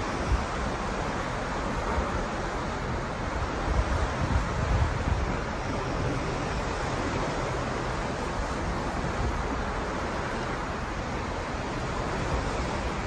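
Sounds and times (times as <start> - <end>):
sea water rushing: 0.0 - 13.0.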